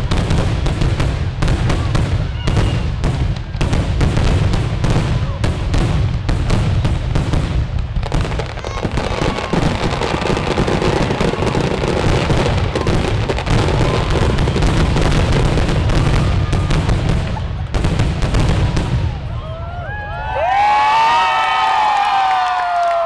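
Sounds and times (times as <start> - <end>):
fireworks bangs and crackle: 0.0 - 22.8.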